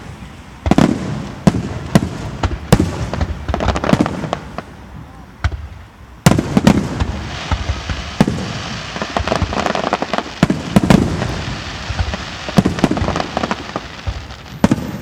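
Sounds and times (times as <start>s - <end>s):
crackling firework sparks: 0.0s - 15.0s
fireworks bursting bangs: 0.0s - 15.0s.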